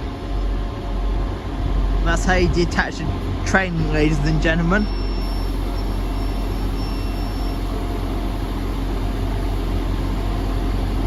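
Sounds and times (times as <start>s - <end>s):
train engines idling: 0.0s - 11.0s.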